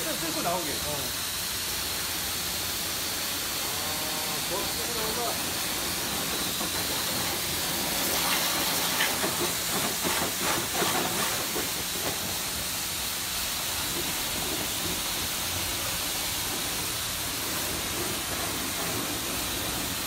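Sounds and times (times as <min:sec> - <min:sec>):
pressure washer jet hissing: 0:00.0 - 0:20.0.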